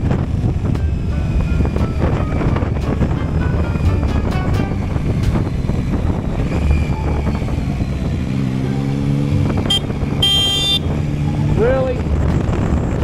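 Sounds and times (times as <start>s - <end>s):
motorcycle engine rumble: 0.0s - 13.0s
pitched hum: 0.0s - 13.0s
road and wind noise: 0.0s - 13.0s.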